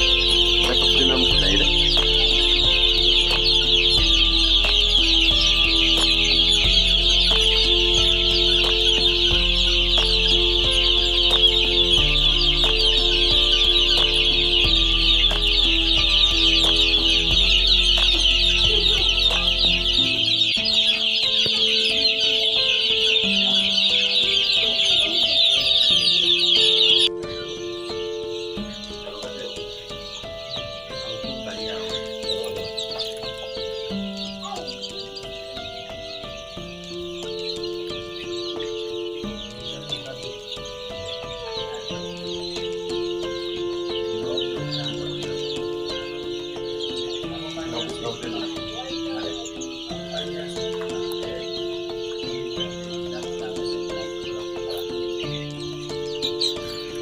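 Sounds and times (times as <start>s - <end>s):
background music with deep bass: 0.0s - 57.0s
chicks peeping: 0.0s - 57.0s.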